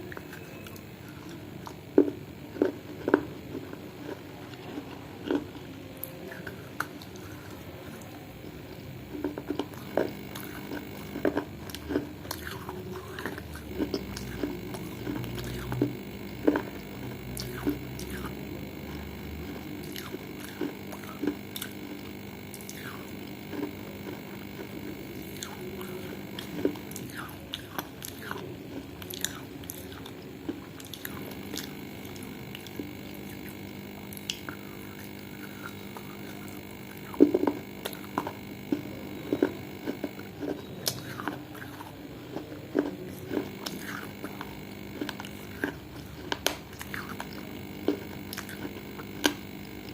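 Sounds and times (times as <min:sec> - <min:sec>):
chewing and crunching clay: 0:00.0 - 0:49.9.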